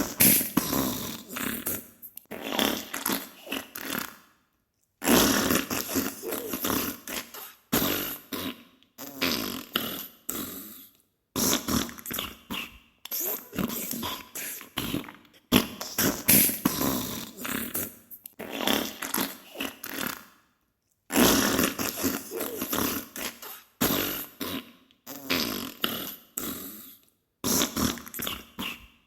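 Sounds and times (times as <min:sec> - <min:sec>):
fart bursts: 0:00.0 - 0:04.2, 0:05.0 - 0:10.7, 0:11.4 - 0:20.3, 0:21.1 - 0:26.7, 0:27.4 - 0:28.9.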